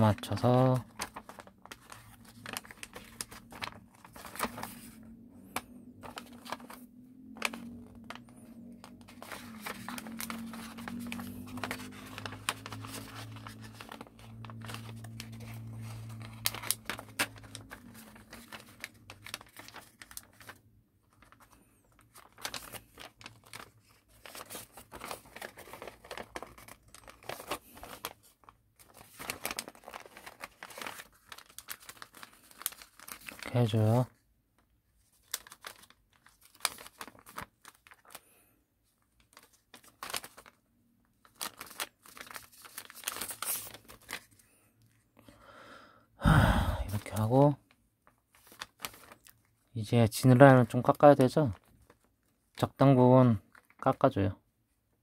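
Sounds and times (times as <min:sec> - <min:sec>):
paper crinkling and rustling: 0:00.0 - 0:45.3, 0:46.9 - 0:54.2.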